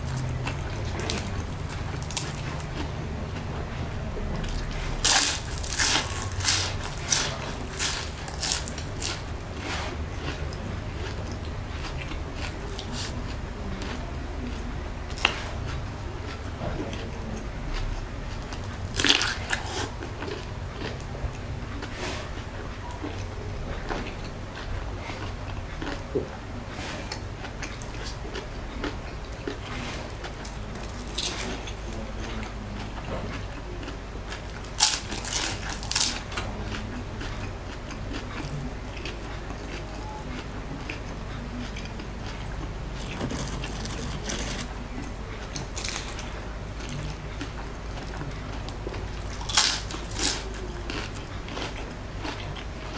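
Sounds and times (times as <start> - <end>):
crunching fried spring rolls: 0.0 - 52.9
soft chewing: 0.0 - 52.9.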